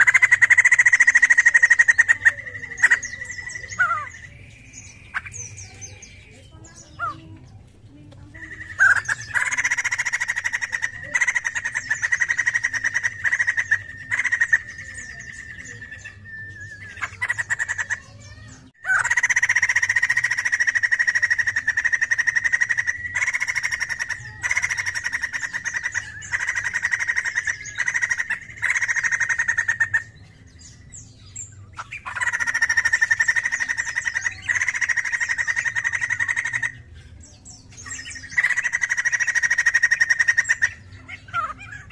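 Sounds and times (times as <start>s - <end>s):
bird calling rapid notes: 0.0s - 7.3s, 8.3s - 30.2s, 31.8s - 36.9s, 37.8s - 41.9s.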